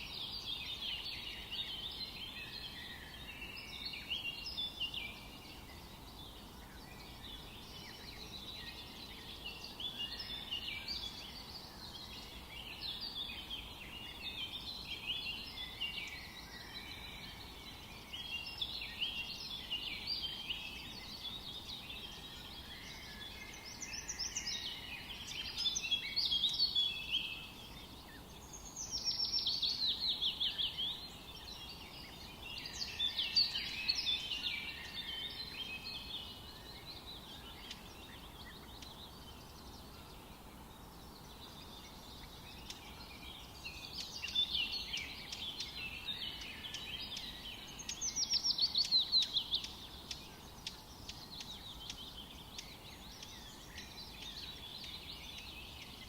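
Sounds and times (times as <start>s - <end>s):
faint forest background: 0.0s - 56.0s
songbirds singing and chirping: 0.0s - 56.0s.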